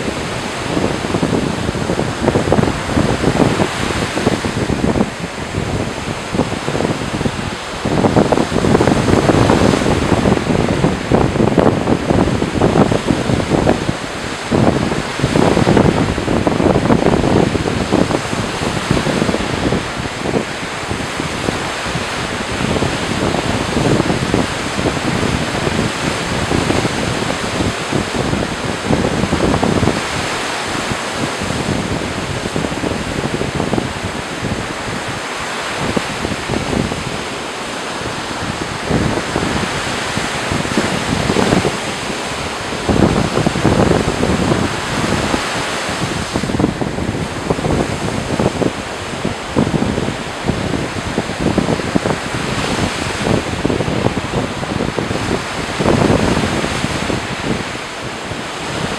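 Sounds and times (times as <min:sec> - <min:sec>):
ocean surf breaking: 0:00.0 - 0:58.9
wind buffeting microphone: 0:00.0 - 0:58.9.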